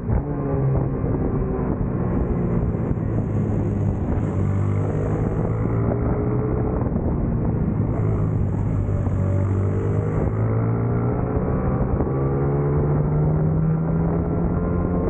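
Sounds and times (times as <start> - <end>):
racing motorcycle engine: 0.0 - 15.0.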